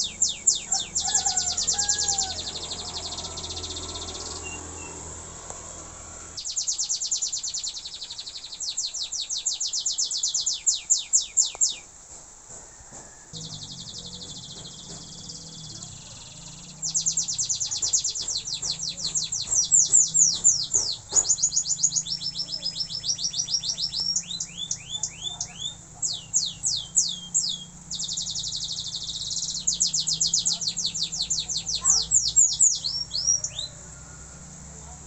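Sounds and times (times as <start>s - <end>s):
canary singing: 0.0s - 5.4s, 6.3s - 11.9s, 13.0s - 35.0s.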